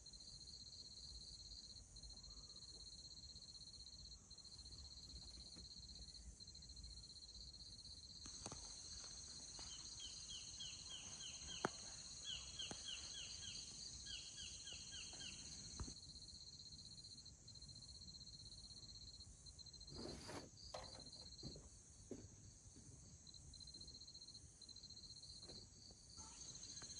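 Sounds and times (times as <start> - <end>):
insects trilling: 0.4 - 21.6, 26.2 - 26.9.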